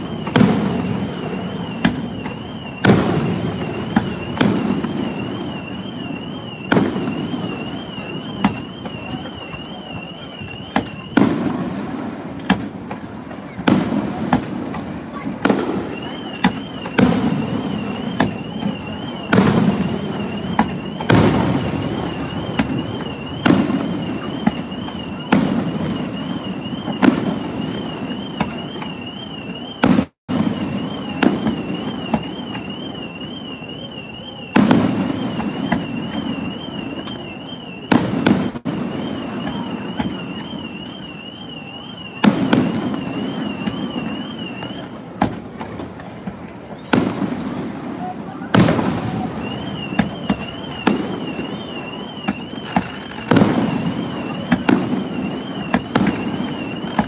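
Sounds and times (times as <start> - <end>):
car alarm warbling: 0.0 - 11.8, 15.7 - 45.1, 48.7 - 57.0
fireworks booming: 0.0 - 57.0.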